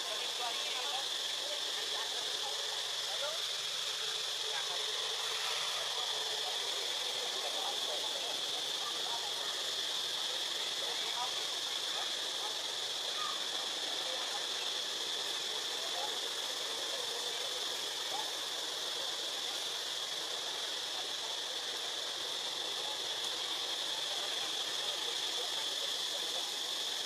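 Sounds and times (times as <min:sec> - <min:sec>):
even hiss: 0:00.0 - 0:27.0.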